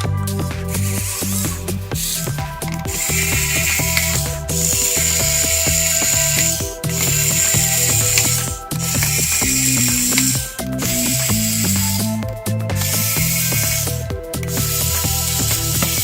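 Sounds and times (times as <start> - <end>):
music with steady beat: 0.0 - 16.0.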